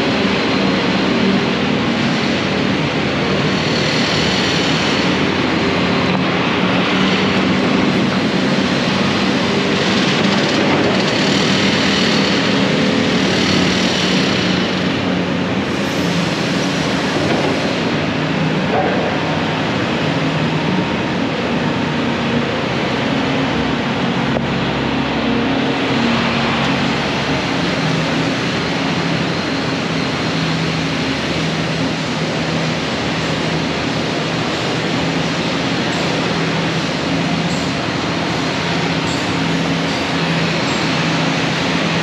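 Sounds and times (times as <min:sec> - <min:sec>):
engine drone: 0:00.0 - 0:42.0.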